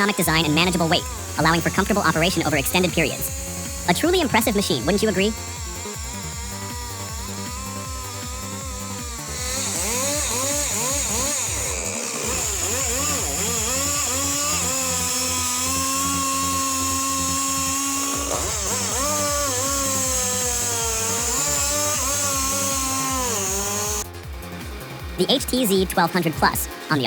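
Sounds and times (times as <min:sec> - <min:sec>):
chainsaw engine revving: 0:00.0 - 0:25.6.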